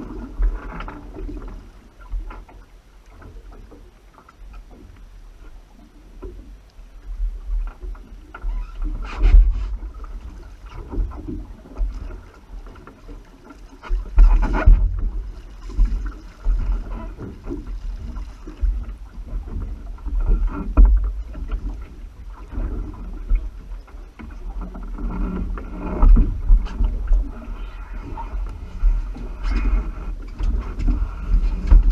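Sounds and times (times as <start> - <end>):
water sloshing against camera: 0.0 - 31.9.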